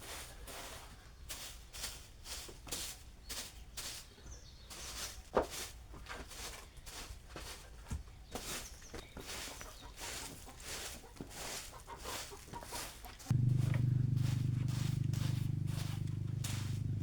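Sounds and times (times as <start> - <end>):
broom sweeping floor: 0.0 - 17.0.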